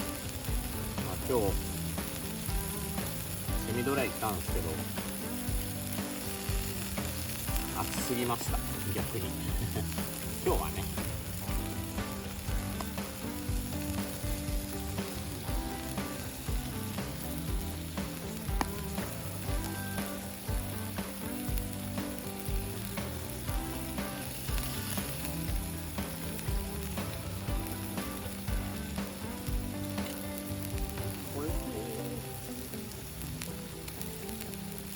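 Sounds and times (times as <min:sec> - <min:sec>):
meat sizzling on a hot plate: 0:00.0 - 0:34.9
soft background music with beat: 0:00.0 - 0:34.9.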